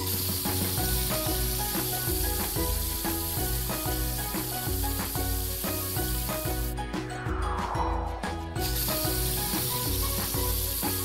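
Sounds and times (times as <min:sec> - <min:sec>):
spray can hissing: 0:00.0 - 0:06.8, 0:08.6 - 0:11.0
background music with a beat: 0:00.0 - 0:11.0.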